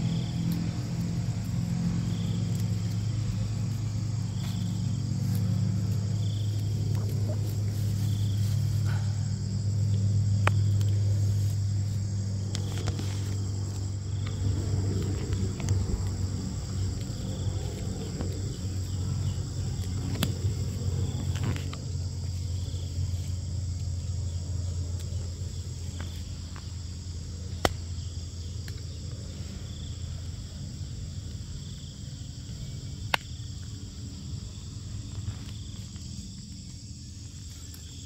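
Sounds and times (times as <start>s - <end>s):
crickets and insects buzzing: 0.0s - 38.0s
turboprop airliner drone: 0.0s - 38.0s.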